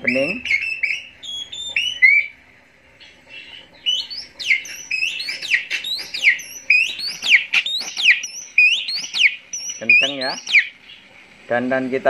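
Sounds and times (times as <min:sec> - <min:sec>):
recorded birdsong through speaker: 0:00.0 - 0:02.4, 0:03.0 - 0:12.0.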